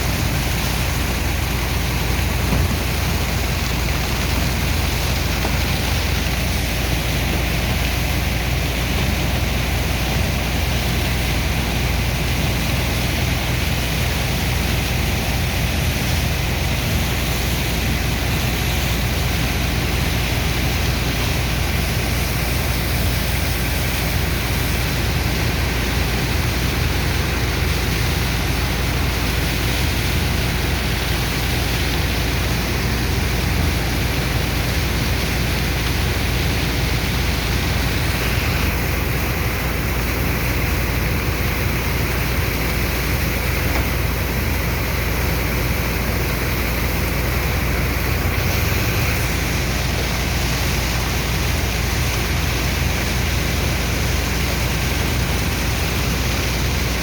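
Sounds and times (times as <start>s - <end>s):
low engine drone: 0.0s - 57.0s
water slurry rushing: 0.0s - 57.0s.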